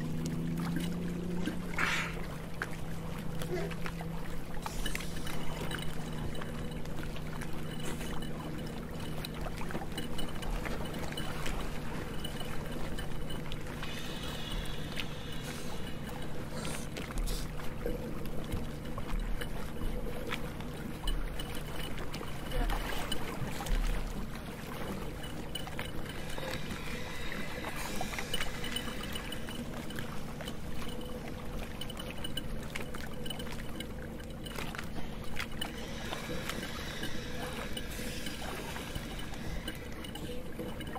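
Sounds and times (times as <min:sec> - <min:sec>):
steady low hum: 0:00.0 - 0:40.9
water sloshing against boat: 0:00.0 - 0:40.9.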